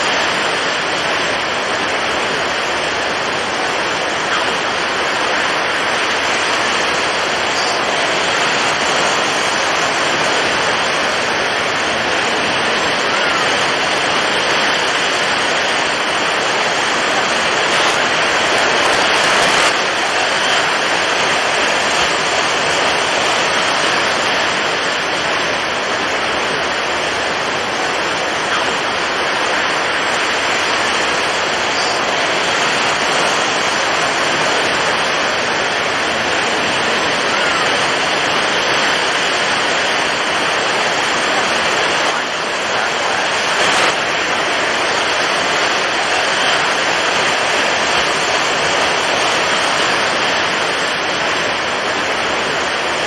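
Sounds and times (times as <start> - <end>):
heavy waves rushing: 0.0 - 53.0
strong wind: 0.0 - 53.0.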